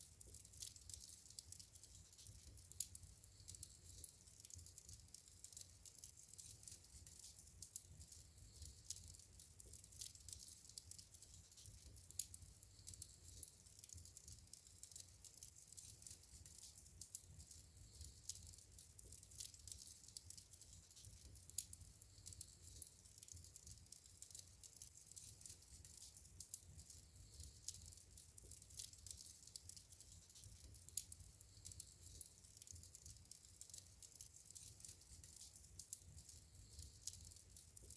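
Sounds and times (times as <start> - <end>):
fire popping and snapping: 0.0 - 37.9
wood fire crackling: 0.0 - 37.9.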